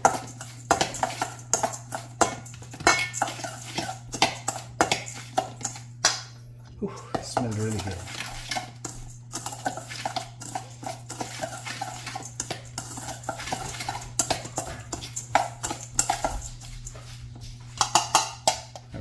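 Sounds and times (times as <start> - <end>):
spoon scraping and clicking bowl: 0.0 - 6.2, 7.1 - 18.9
steady low hum: 0.0 - 19.0.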